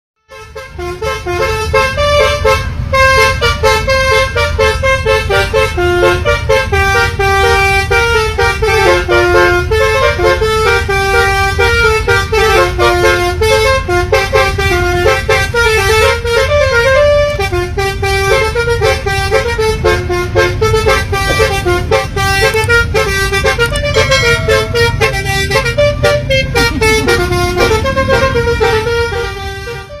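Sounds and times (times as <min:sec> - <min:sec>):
musical air horn melody: 0:00.3 - 0:30.0
truck low rumble: 0:00.4 - 0:30.0.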